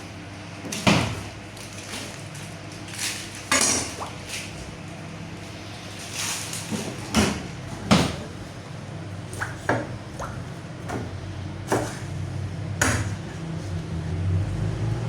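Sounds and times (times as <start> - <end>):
low machine hum: 1.3 - 15.0.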